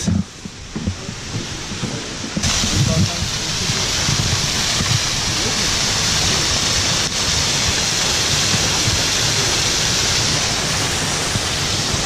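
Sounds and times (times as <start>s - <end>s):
waterfall rushing: 1.4s - 12.0s.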